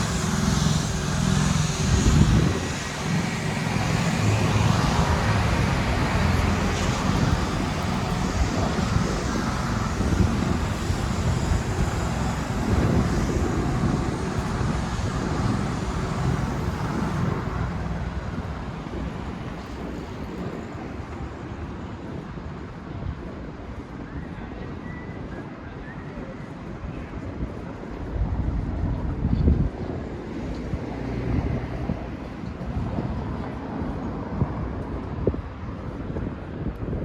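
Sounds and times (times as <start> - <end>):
city road traffic: 0.0 - 37.0.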